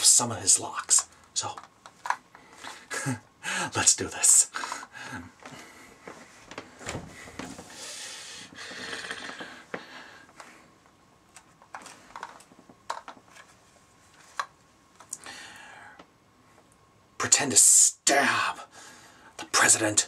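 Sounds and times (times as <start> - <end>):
soft hiss: 0.0 - 20.0.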